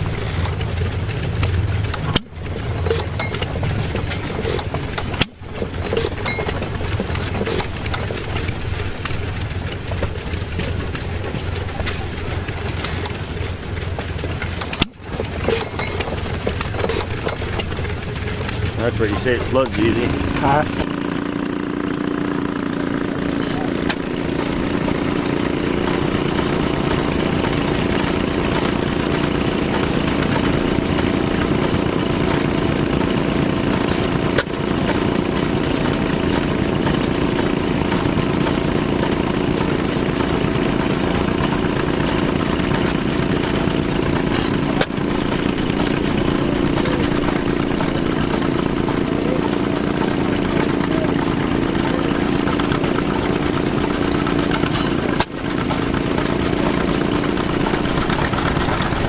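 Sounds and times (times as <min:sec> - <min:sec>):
gasoline engine running: 0:00.0 - 0:59.0.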